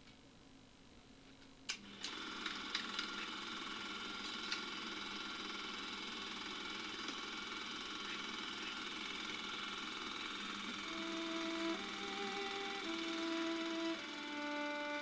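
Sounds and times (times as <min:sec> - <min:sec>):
faint hum: 0:00.0 - 0:15.0
small machine whirring: 0:01.8 - 0:15.0.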